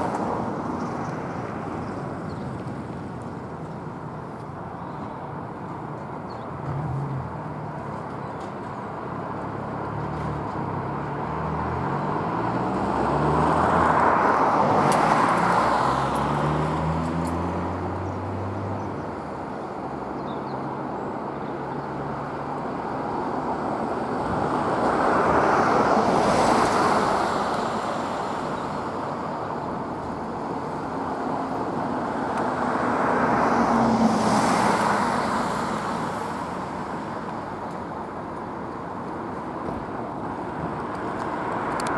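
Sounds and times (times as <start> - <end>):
vehicles passing by: 0.0 - 41.9.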